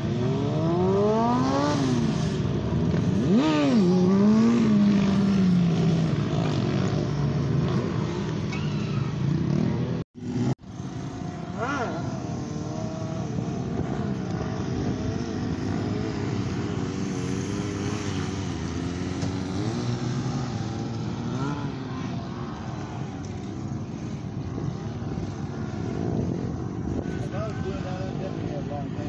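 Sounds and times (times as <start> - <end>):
motorcycle engines revving: 0.0 - 29.0.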